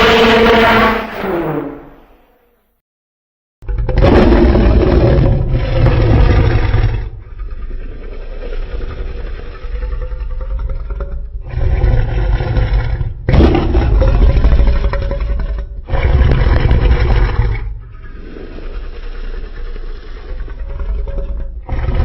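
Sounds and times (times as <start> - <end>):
deep rumbling monster roar: 0.0 - 1.1, 3.6 - 22.0.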